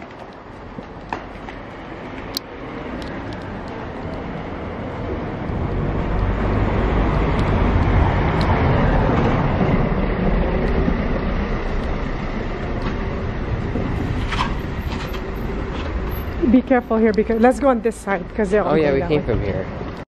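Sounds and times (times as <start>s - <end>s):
car passing close: 0.0s - 19.8s.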